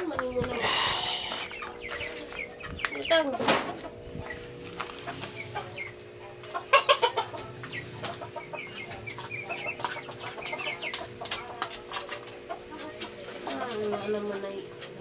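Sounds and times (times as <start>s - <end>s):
chickens clucking: 0.0s - 15.0s
faint steady hum: 0.0s - 15.0s.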